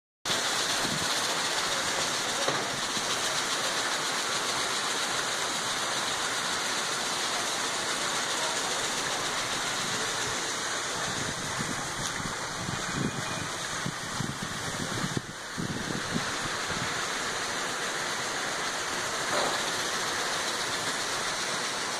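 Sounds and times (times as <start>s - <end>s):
water rushing into pond: 0.3s - 21.9s
water splashing and gurgling: 0.3s - 21.9s.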